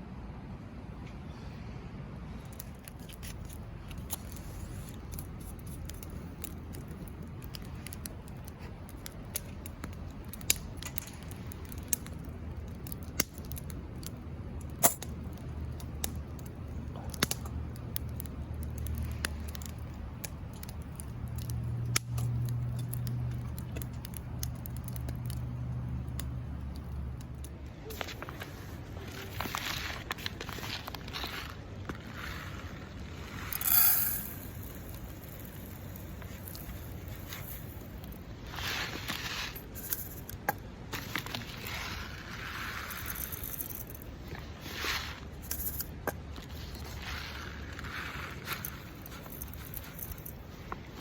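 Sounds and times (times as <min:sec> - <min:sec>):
wood fire crackling: 0:02.3 - 0:51.0.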